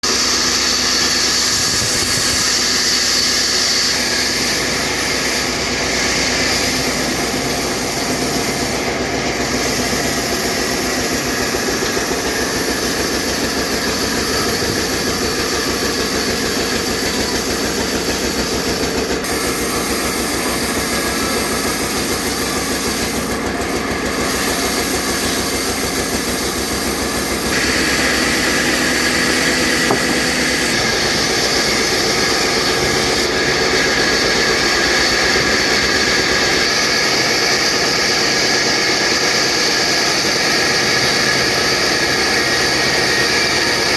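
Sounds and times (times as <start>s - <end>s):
band sawmill running: 0.0s - 43.9s.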